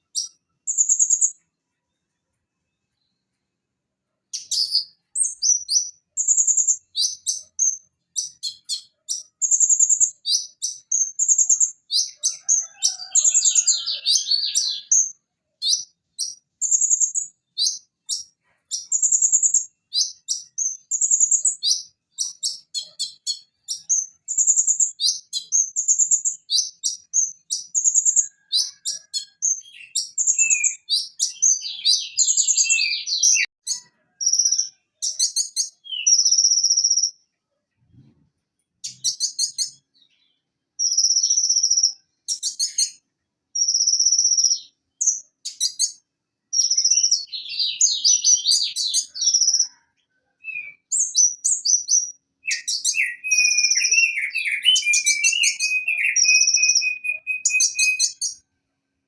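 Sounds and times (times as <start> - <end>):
sunbird singing high chirps and trills: 0.0 - 3.4, 4.3 - 37.3, 38.8 - 58.5.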